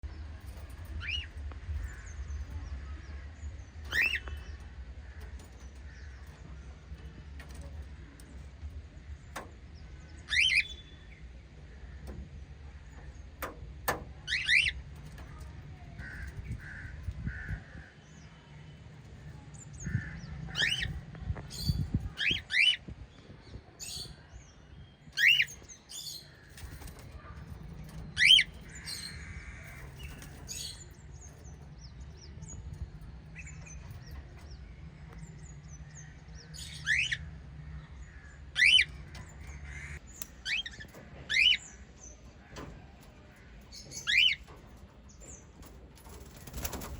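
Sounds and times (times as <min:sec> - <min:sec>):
lovebirds chirping: 0:00.0 - 0:46.9.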